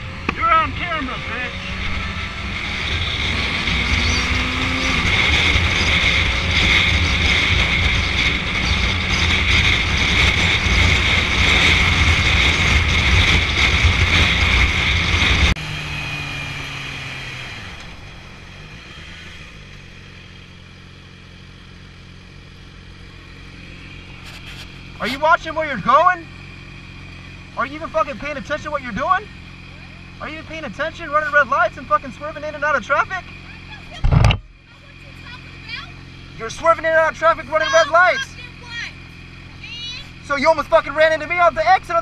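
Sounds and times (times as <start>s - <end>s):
motorcycle engine: 0.0s - 42.0s
wind and road noise: 0.0s - 42.0s.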